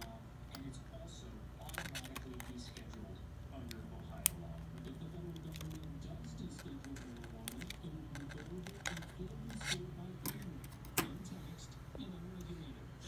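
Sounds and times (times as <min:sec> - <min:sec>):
television news voice: 0:00.0 - 0:13.0.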